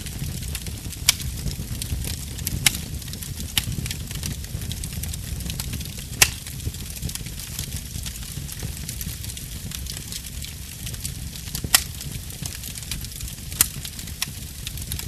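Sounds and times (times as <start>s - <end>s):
burning wood crackling: 0.0s - 15.0s.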